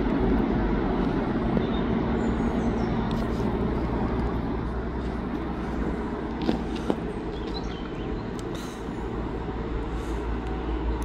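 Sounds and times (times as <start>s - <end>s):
train rushing rumble: 0.0s - 11.0s.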